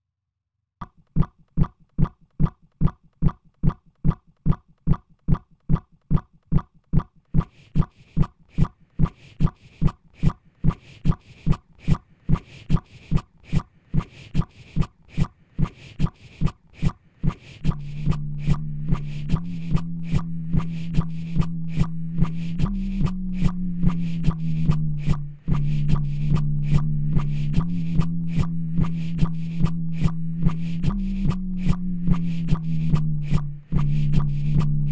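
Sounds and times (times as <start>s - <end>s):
beatboxed kick drum loop: 0.8s - 34.9s.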